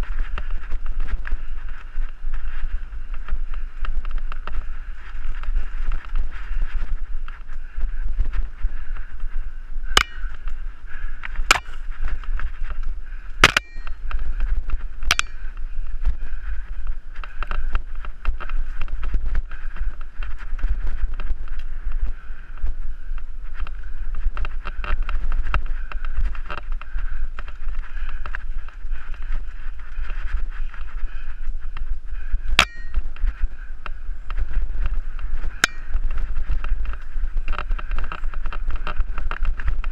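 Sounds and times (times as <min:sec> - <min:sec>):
bike rattling over bumps: 0:00.0 - 0:39.9
wind rumbling on microphone: 0:00.0 - 0:39.9.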